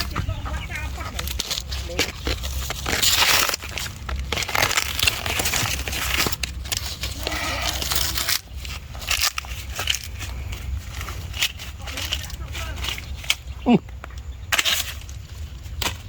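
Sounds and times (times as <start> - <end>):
plant material crunching and rustling: 0.0 - 13.8.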